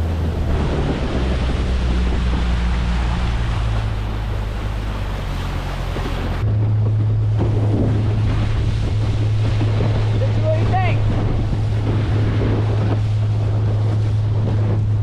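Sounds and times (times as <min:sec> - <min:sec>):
boat motor droning: 0:00.0 - 0:15.0
water noise from hull: 0:00.0 - 0:15.0
wind on microphone: 0:00.0 - 0:15.0.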